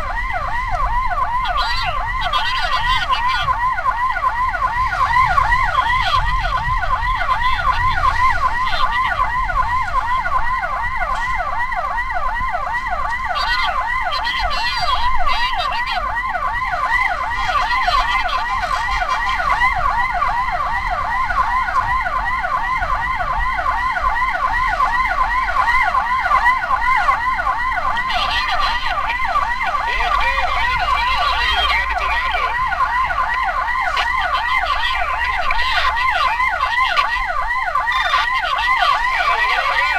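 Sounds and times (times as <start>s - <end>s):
ambulance siren yelping: 0.0s - 39.9s
vehicle and road rumble: 0.0s - 39.9s.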